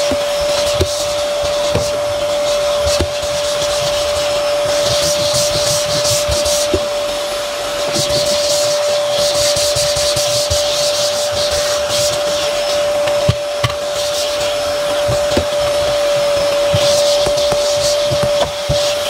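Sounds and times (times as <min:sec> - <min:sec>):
brush scrubbing surface: 0:00.0 - 0:19.0
vacuum cleaner running: 0:00.0 - 0:19.0.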